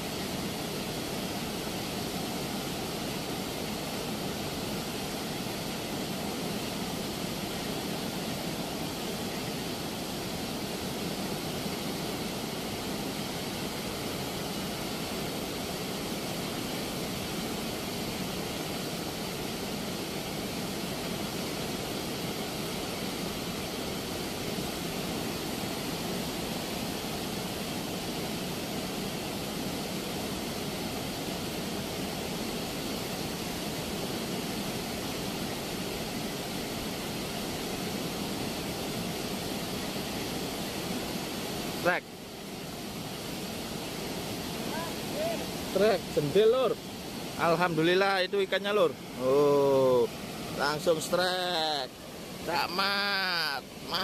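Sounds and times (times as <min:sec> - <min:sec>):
river water rushing through weir: 0:00.0 - 0:54.0.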